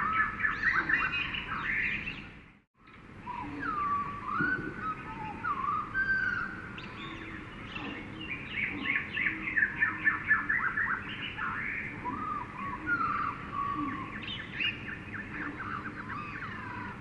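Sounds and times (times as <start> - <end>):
forest background hum: 0.0 - 17.0
bird whistled call: 3.2 - 17.0
bird call with falling notes: 3.3 - 17.0.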